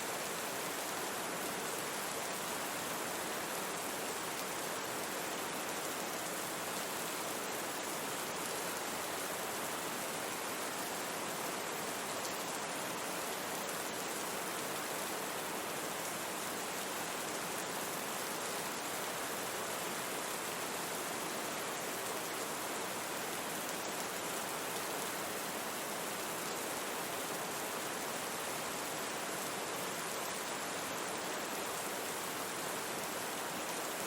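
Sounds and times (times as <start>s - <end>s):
brown noise hiss: 0.0s - 34.0s
steady rain: 0.0s - 34.0s.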